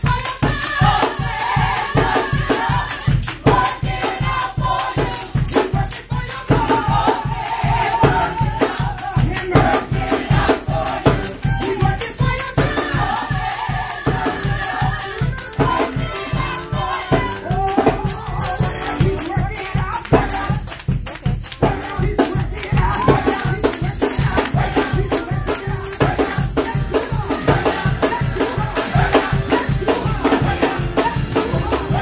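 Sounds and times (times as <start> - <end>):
gospel choir singing: 0.0 - 20.9, 21.6 - 32.0
live band with percussion: 0.0 - 32.0.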